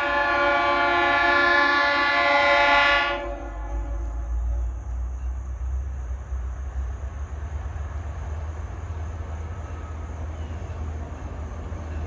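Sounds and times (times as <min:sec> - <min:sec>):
distant train rumble: 0:00.0 - 0:12.0.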